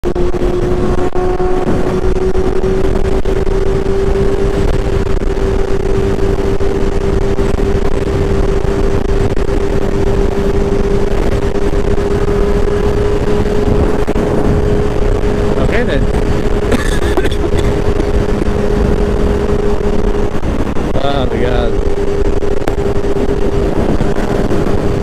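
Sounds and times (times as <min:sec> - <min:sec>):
motorcycle engine cruising: 0:00.0 - 0:25.0
wind rush on microphone: 0:00.0 - 0:25.0.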